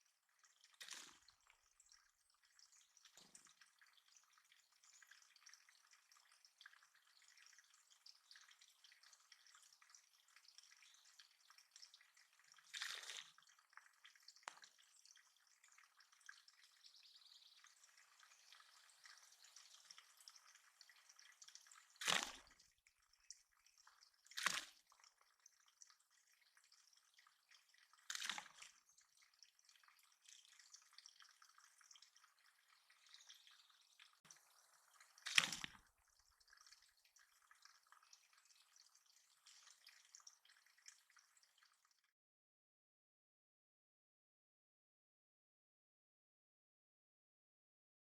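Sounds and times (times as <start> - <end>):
water dripping and splashing: 0.0 - 42.1
water plops: 0.5 - 42.0.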